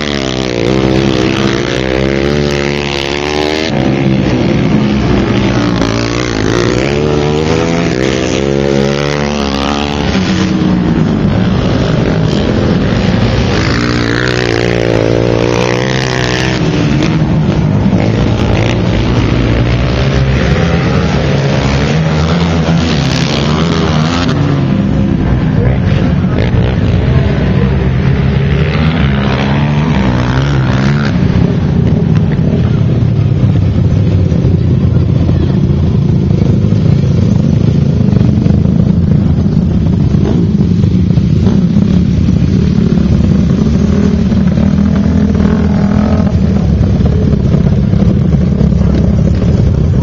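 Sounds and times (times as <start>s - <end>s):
quad engines revving: 0.0s - 50.0s.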